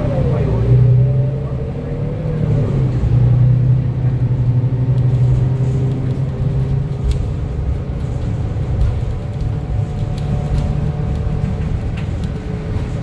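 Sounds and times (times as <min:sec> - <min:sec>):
bus engine low hum: 0:00.0 - 0:13.0
drivetrain whine: 0:00.0 - 0:13.0.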